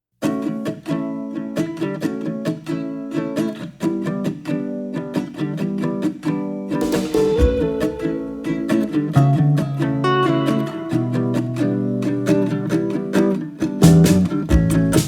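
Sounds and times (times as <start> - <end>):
strummed acoustic guitar music: 0.2 - 15.0.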